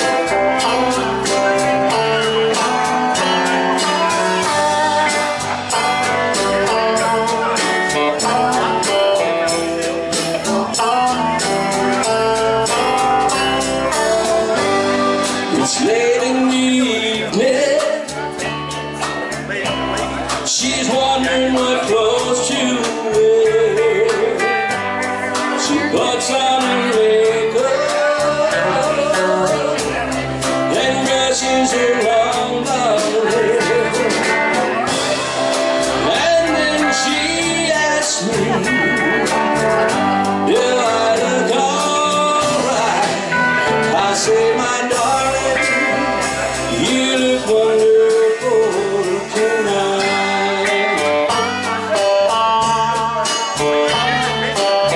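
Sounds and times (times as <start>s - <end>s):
live country band playing: 0.0s - 54.9s.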